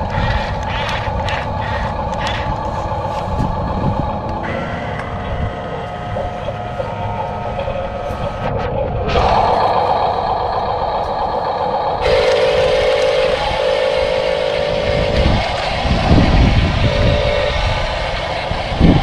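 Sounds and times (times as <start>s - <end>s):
toy truck motor whining: 0.0s - 19.0s.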